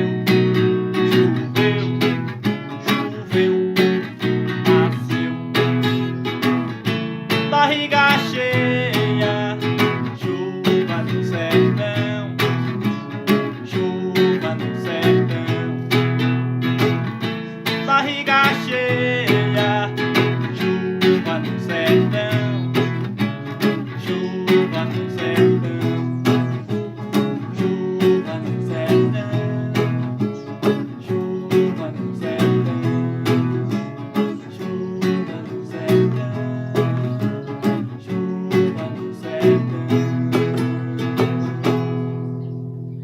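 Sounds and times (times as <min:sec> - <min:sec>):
acoustic guitar strumming: 0:00.0 - 0:43.0.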